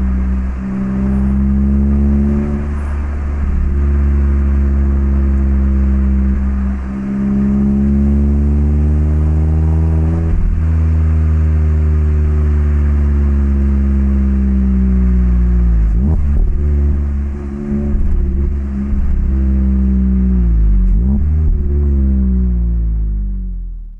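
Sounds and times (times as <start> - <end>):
car engine revving: 0.0 - 23.8.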